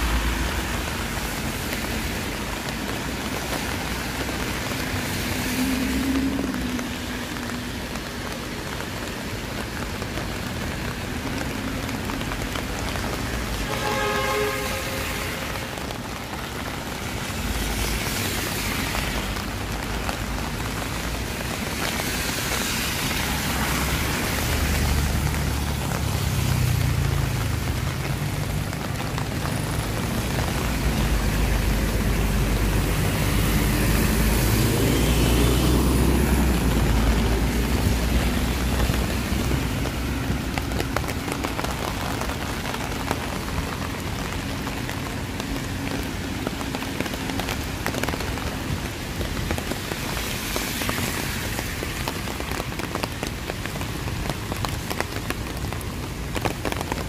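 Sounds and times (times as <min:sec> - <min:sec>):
rain falling: 0:00.0 - 0:57.0
road traffic passing: 0:00.0 - 0:57.0.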